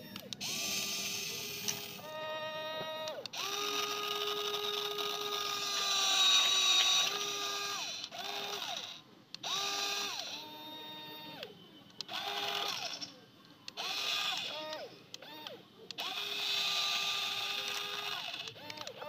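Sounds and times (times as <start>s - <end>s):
toy electric motors whirring: 0.0s - 19.0s.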